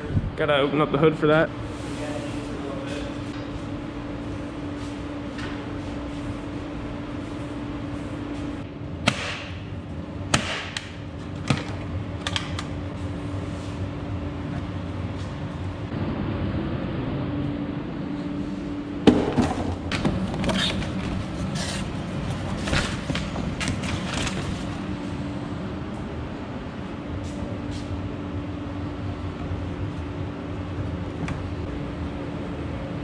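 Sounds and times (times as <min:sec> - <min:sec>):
steady hum with low tone: 0:00.0 - 0:33.0.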